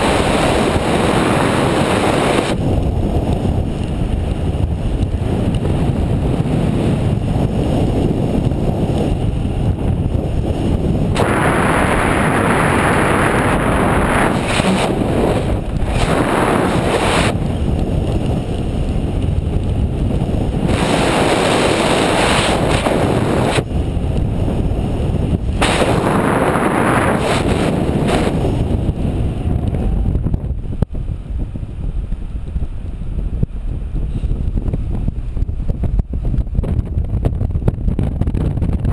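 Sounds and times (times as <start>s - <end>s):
wind buffeting camera microphone: 0.0s - 38.9s.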